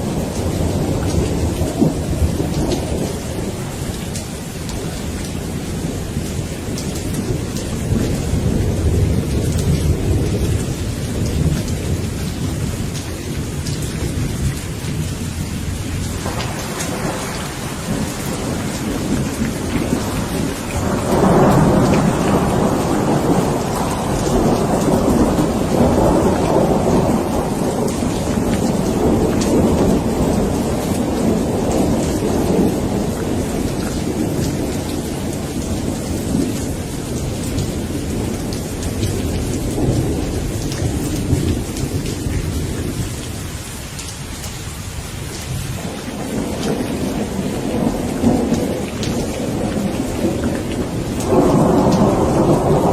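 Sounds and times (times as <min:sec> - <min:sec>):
rolling thunder: 0:00.0 - 0:43.5, 0:45.3 - 0:52.9
steady rain: 0:00.0 - 0:52.9.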